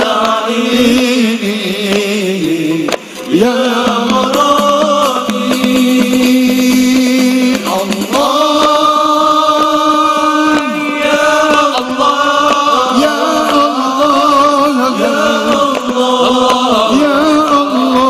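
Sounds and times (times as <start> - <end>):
man chanting through microphone: 0.0 - 18.0.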